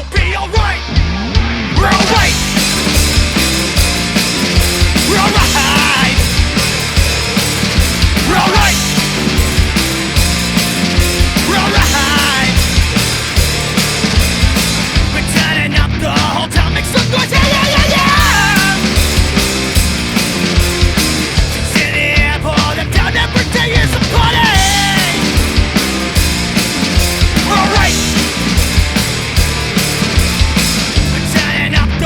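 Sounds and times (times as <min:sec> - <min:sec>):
punk rock song: 0:00.0 - 0:32.0.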